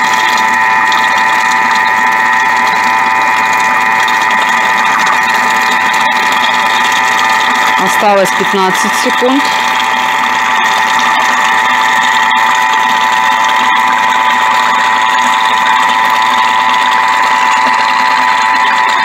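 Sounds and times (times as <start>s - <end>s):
food processor motor whining: 0.0s - 19.0s.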